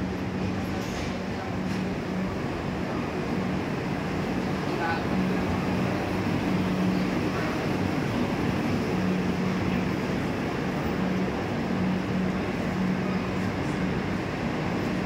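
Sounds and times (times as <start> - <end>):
train at station: 0.0 - 15.0.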